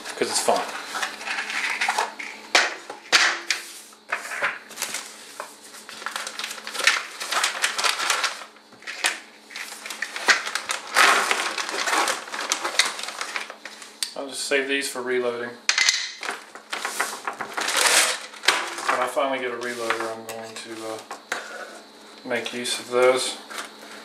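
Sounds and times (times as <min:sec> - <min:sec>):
plastic and cardboard crinkling: 0:00.0 - 0:14.0, 0:16.2 - 0:24.0.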